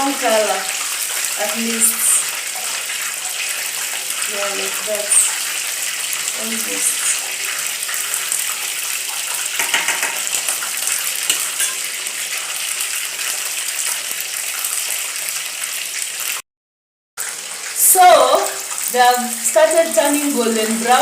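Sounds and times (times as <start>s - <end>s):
chicken deep frying in oil: 0.0s - 16.4s, 17.2s - 21.0s.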